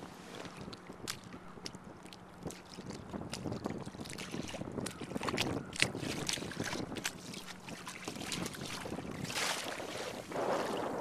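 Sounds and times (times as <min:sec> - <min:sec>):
water slapping kayak hull: 0:00.0 - 0:11.0
wind on microphone: 0:00.0 - 0:11.0.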